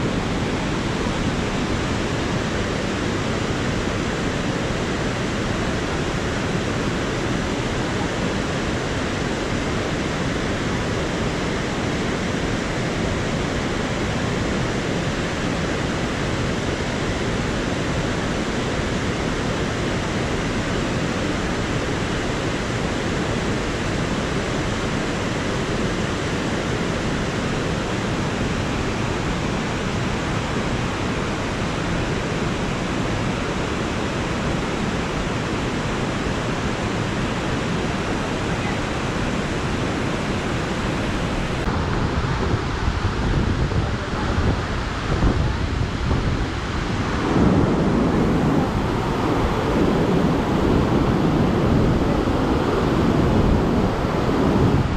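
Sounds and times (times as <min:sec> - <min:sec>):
river rapids rushing over boulders: 0:00.0 - 0:54.9.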